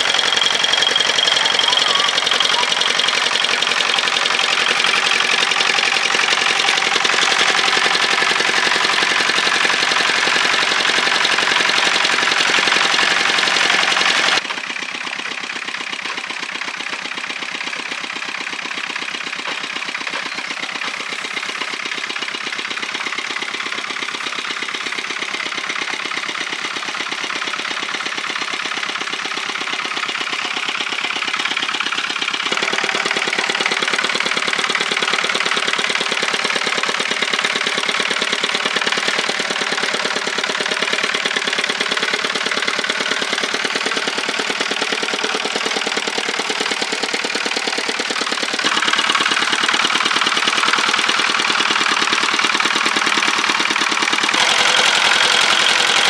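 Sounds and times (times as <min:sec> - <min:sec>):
small engine running with knocking: 0:00.0 - 0:56.0.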